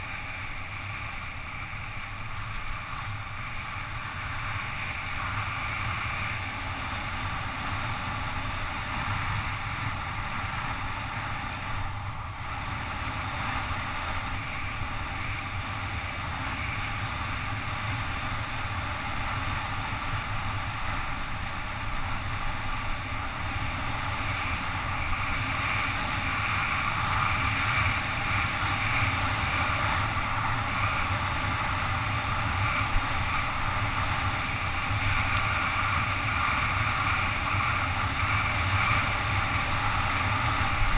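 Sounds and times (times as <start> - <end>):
wind rushing over camera: 0.0 - 40.9.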